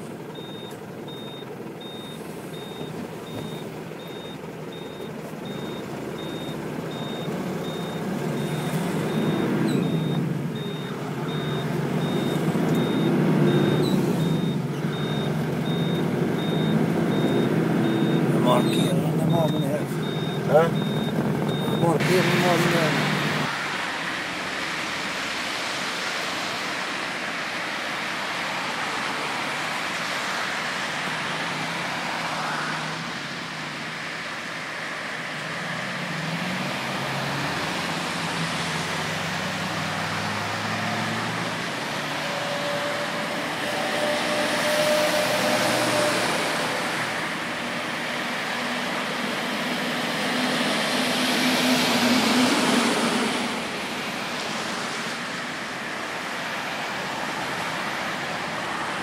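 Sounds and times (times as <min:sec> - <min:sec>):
motorway traffic noise: 0:00.0 - 0:59.0
vehicles passing close by: 0:00.0 - 0:59.0.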